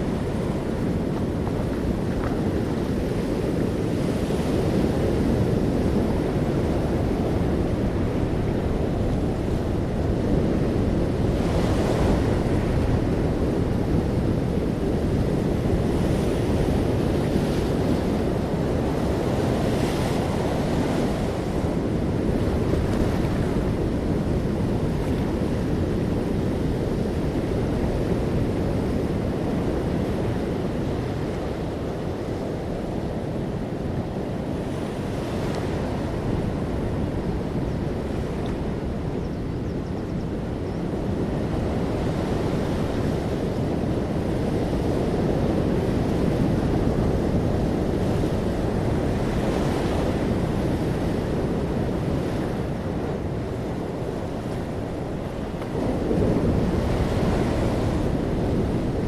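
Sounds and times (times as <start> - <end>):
ocean waves breaking: 0.0 - 39.1, 40.9 - 59.0
wind on microphone: 0.0 - 59.0.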